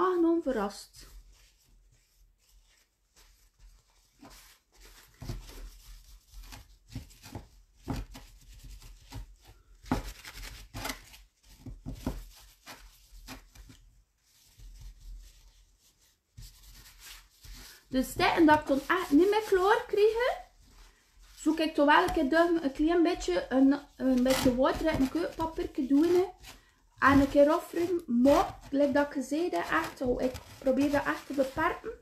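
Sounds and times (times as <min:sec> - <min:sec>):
paper towel rubbing ceramic: 0:00.0 - 0:32.0.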